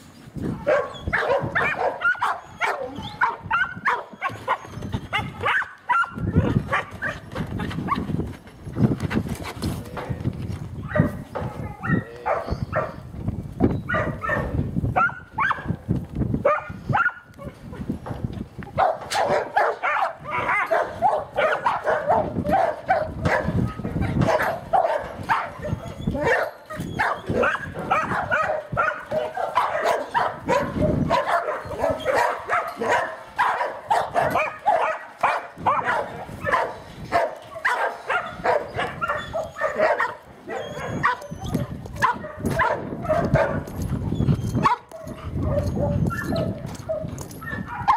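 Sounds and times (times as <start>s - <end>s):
dog barking: 0.6s - 4.6s, 5.2s - 7.2s, 10.9s - 13.0s, 13.9s - 15.7s, 16.4s - 17.3s, 18.8s - 43.7s, 44.6s - 47.9s.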